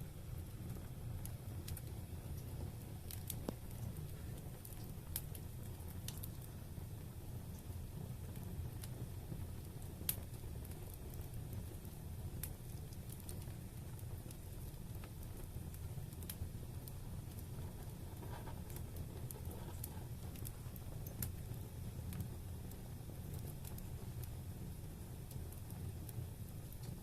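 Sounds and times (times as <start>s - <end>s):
fire crackles and pops: 0.0s - 27.0s
wood fire burning: 0.0s - 27.0s.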